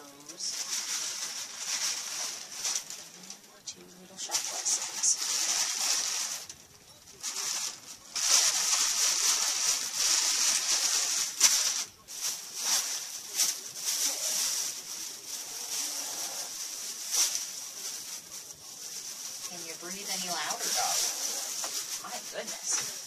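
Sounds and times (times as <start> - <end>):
plastic bags rustling: 0.0 - 23.0.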